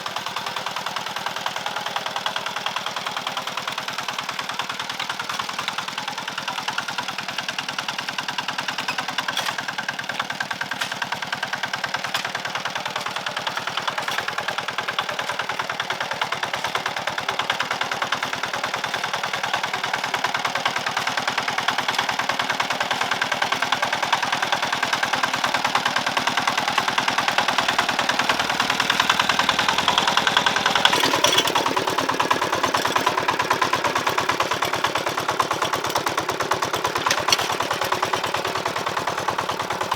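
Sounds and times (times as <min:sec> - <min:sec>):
small engine puttering: 0:00.0 - 0:39.9.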